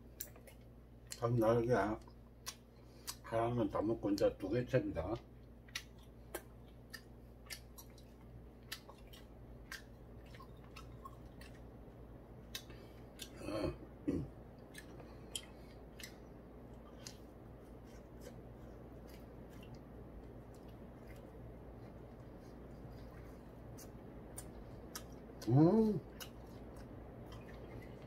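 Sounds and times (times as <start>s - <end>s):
person chewing wet smacks: 0.1s - 1.3s, 1.9s - 3.3s, 5.0s - 13.4s, 14.2s - 28.0s.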